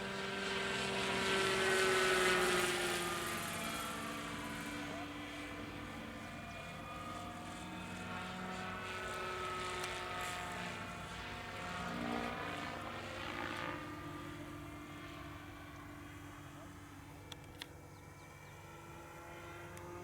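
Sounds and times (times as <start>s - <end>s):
helicopter turbine whine and rotor: 0.0s - 20.0s.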